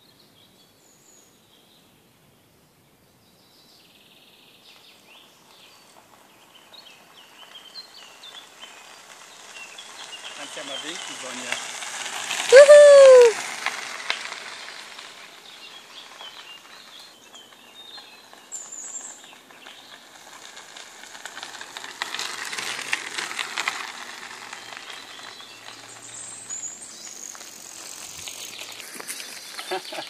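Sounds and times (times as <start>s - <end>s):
tyres rolling over gravel: 4.6s - 30.0s.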